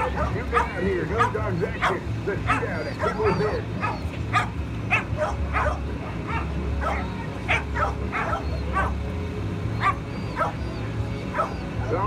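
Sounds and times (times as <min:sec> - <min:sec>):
dog barking and yipping: 0:00.0 - 0:09.0, 0:09.7 - 0:12.0.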